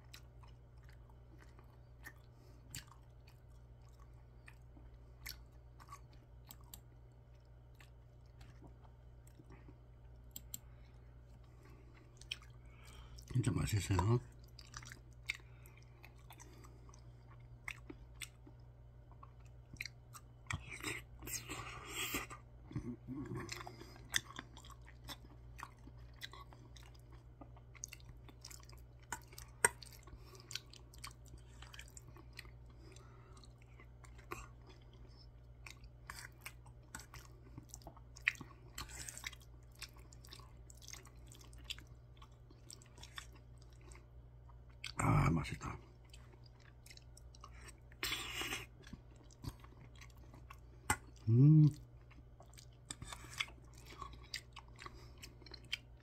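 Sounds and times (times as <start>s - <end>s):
wet chewing: 0.0s - 13.3s, 13.9s - 45.0s, 45.8s - 56.0s
steady low hum: 0.0s - 56.0s.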